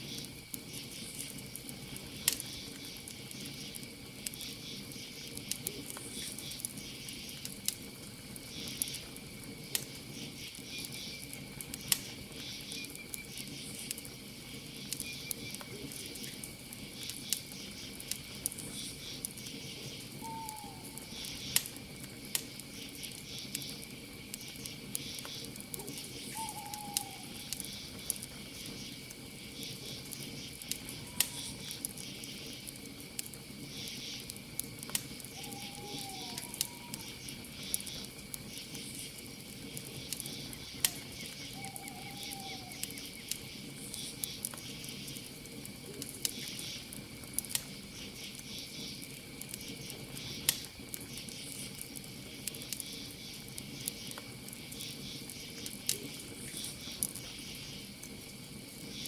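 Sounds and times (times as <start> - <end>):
campfire crackling and popping: 0.0 - 59.0
crickets chirring: 0.0 - 59.0.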